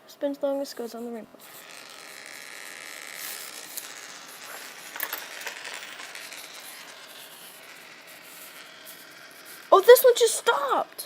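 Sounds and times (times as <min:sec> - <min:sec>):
fidget spinners whirring: 0:00.4 - 0:11.0.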